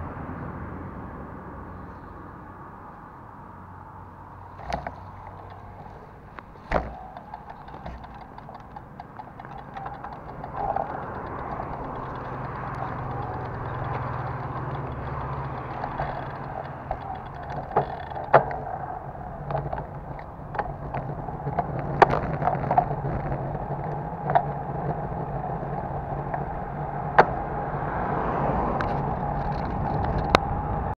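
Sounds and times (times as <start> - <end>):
bicycle tyre rumble on asphalt: 4.3 - 31.0
wind noise: 4.4 - 31.0
sharp clicks and knocks: 4.6 - 27.8, 28.8 - 30.5.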